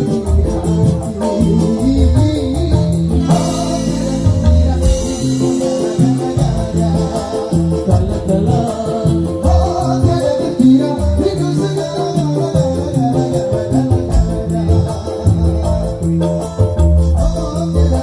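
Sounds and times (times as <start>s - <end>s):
live band playing: 0.0s - 18.0s
man singing: 0.0s - 18.0s.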